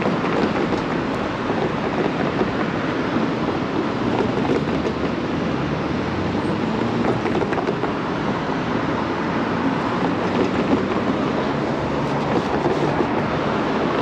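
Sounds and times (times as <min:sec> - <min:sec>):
road noise from moving bicycle: 0:00.0 - 0:14.0
traffic: 0:00.0 - 0:14.0.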